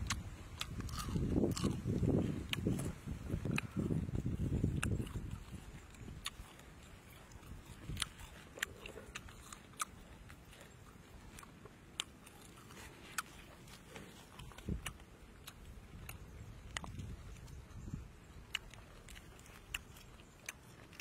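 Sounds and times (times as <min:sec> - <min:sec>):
crisp clicks and crackles of food: 0:00.0 - 0:21.0.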